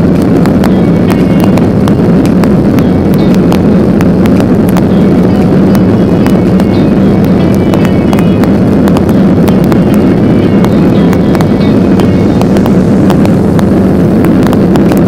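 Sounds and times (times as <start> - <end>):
jet engine roar in cabin: 0.0 - 15.0.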